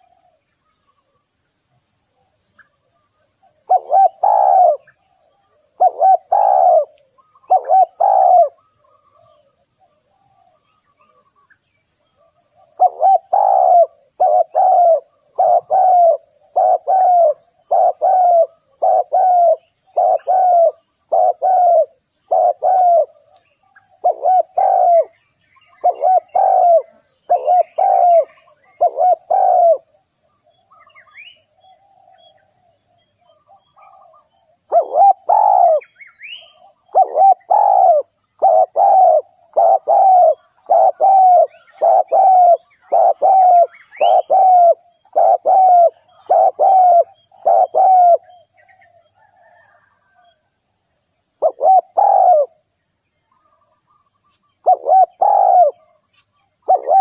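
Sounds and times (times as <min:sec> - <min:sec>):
dove cooing: 0:00.0 - 0:00.4, 0:02.9 - 0:11.3, 0:12.2 - 0:29.9, 0:30.8 - 0:50.4, 0:51.4 - 0:52.7, 0:54.6 - 0:56.0, 0:56.6 - 0:57.0
small birds chirping: 0:00.0 - 0:50.4, 0:51.1 - 0:57.0.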